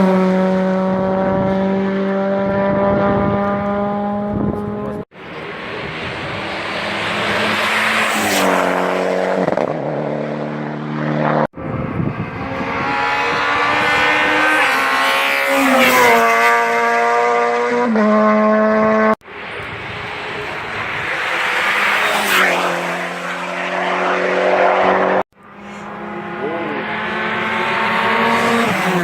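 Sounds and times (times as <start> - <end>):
racing cars accelerating: 0.0 - 29.0.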